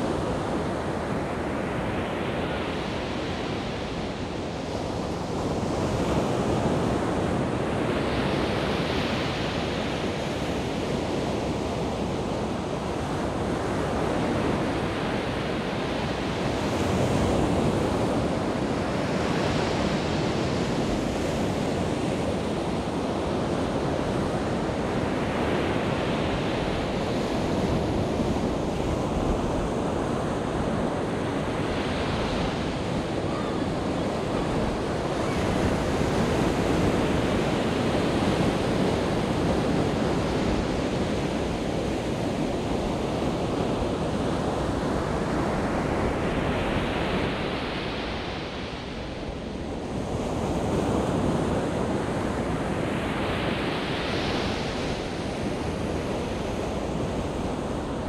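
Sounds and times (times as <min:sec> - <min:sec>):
waves breaking on sandy beach: 0:00.0 - 0:58.0.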